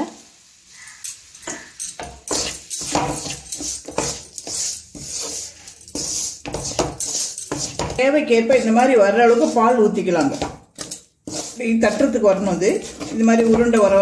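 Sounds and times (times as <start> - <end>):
wooden spatula scraping a pan: 0.8 - 14.0.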